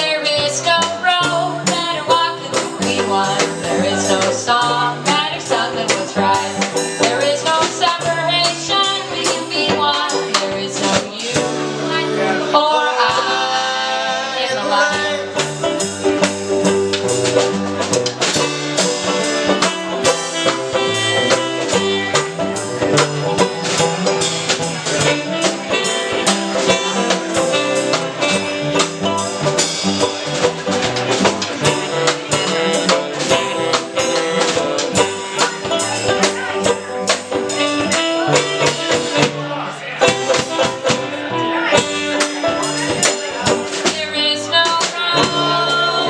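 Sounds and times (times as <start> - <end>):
drum kit steady beat: 0.0 - 46.0
saxophone: 0.0 - 46.0
strummed acoustic guitar: 0.2 - 46.0.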